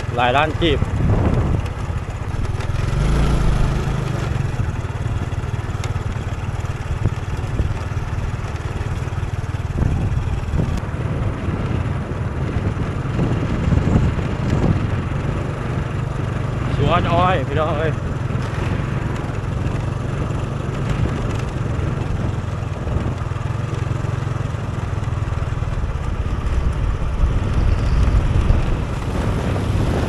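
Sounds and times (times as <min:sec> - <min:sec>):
road noise: 0:00.0 - 0:30.0
vehicle engine running: 0:00.0 - 0:30.0
wind noise: 0:00.0 - 0:30.0.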